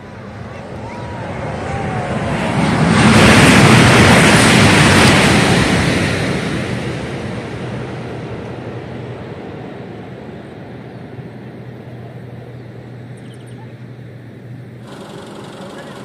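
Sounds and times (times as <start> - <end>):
high-speed train rushing: 0.0 - 13.2, 13.8 - 16.0.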